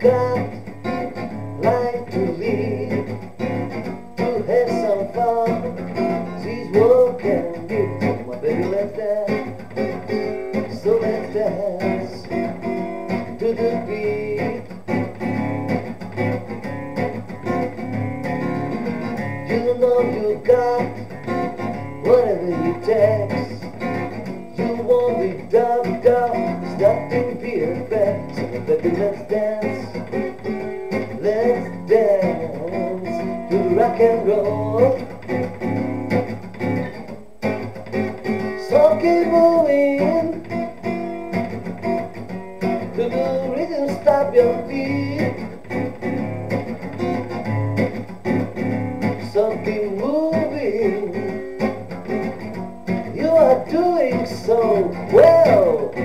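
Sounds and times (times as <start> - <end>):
man singing: 0.0 - 15.4, 18.8 - 35.8, 38.2 - 41.0, 41.9 - 46.0, 49.0 - 56.0
acoustic guitar strummed: 0.0 - 56.0.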